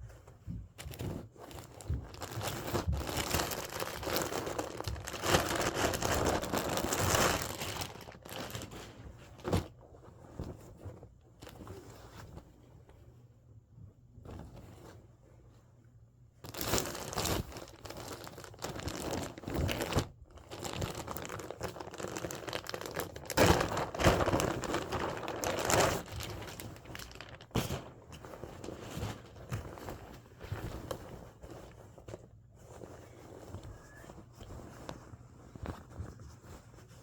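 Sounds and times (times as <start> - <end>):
crinkling and rustling: 0.0 - 37.0.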